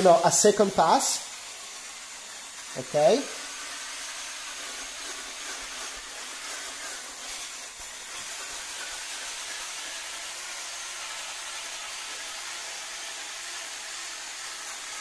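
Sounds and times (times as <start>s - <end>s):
polisher pad hissing: 0.0s - 15.0s.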